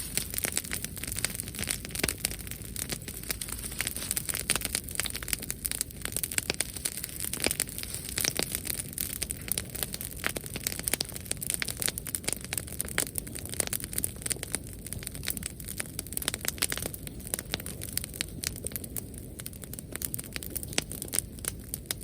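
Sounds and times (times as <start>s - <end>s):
fire pops and snaps: 0.0s - 22.0s
wood bonfire crackling: 0.0s - 22.0s.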